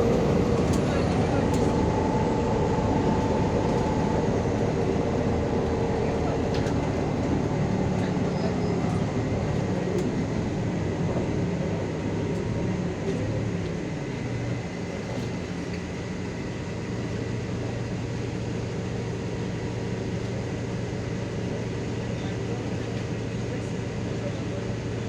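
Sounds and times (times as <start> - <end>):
bus engine from inside cabin: 0.0 - 25.0.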